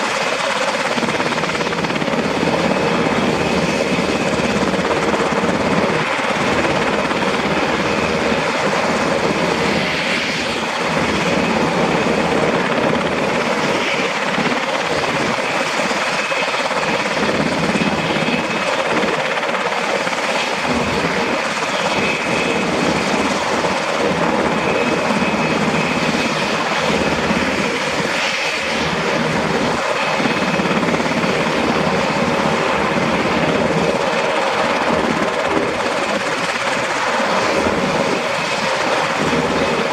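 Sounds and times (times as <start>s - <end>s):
helicopter engines and rotor: 0.0s - 39.9s.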